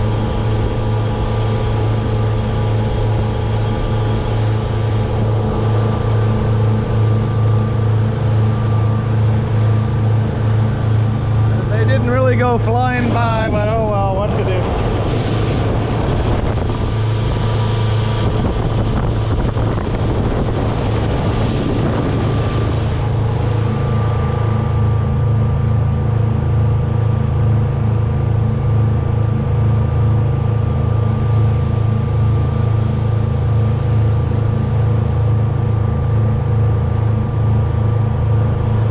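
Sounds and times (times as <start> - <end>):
motorboat engine running: 0.0 - 38.9
water rushing: 0.0 - 38.9
wind on microphone: 0.0 - 38.9.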